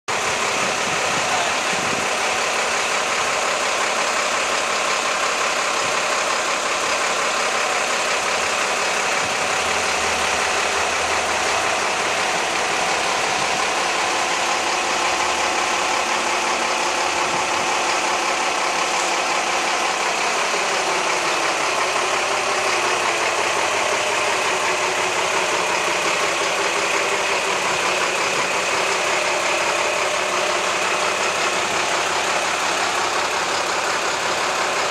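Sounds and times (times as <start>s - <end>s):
engine moving off: 0.1s - 34.9s
fire engine diesel idling: 0.1s - 34.9s.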